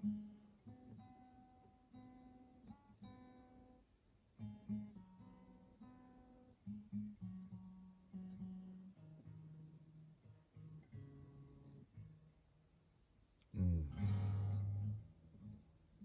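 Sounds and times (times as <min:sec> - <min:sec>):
soft acoustic guitar: 0:00.0 - 0:16.0.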